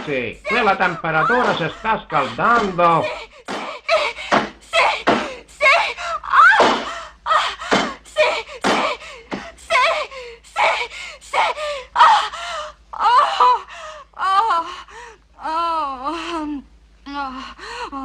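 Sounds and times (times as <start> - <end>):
woman moaning and gasping: 0.4 - 18.0.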